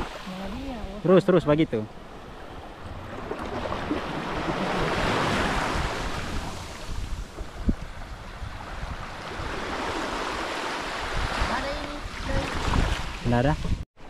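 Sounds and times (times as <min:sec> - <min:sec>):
small waves washing up shore: 0:00.0 - 0:13.8
wind on the microphone: 0:02.2 - 0:13.8.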